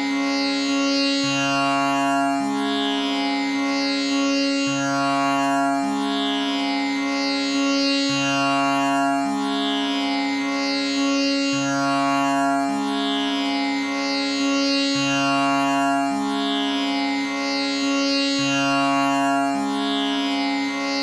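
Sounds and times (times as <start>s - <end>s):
tanpura drone: 0.0s - 21.0s.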